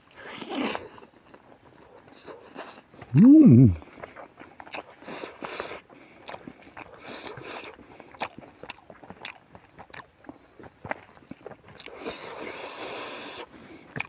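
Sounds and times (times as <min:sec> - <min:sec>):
man chewing with wet smacks: 0:00.0 - 0:14.0.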